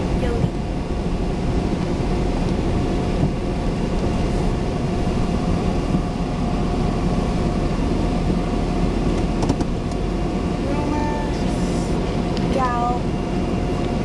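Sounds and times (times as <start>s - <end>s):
engine and tyres on dirt: 0.0s - 14.0s
thin steady whine: 0.0s - 14.0s.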